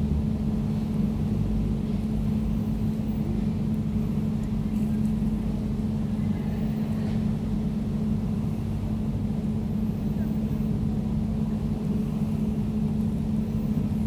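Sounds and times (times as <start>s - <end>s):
air conditioner droning: 0.0s - 14.0s.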